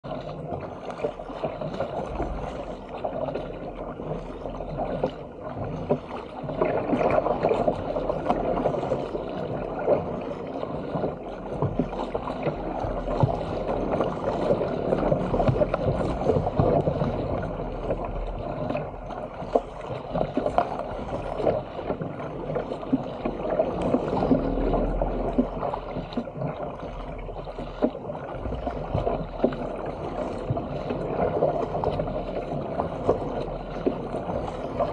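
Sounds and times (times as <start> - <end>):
paddle blades dipping: 0.0 - 34.9
water rushing along a hull: 0.0 - 34.9.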